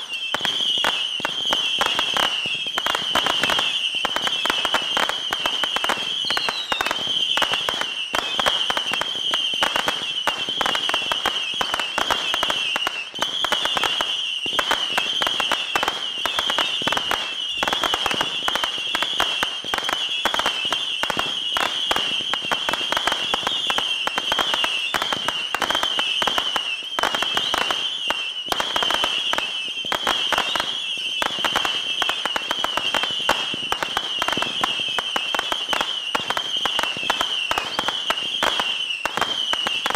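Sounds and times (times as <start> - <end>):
rockets whistling: 0.0 - 39.9.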